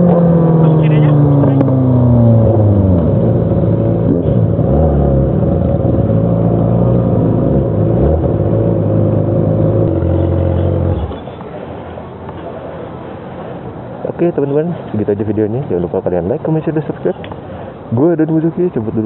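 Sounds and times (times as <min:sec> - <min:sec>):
vehicle engine with loud exhaust: 0:00.0 - 0:19.0.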